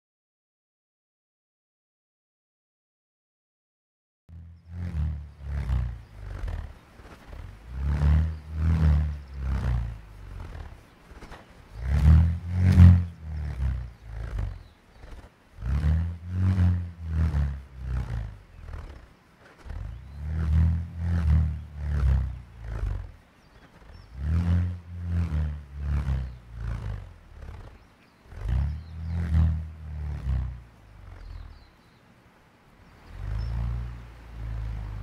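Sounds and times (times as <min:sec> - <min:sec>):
bullroarer throbbing roar: 0:04.3 - 0:32.0, 0:32.8 - 0:35.0.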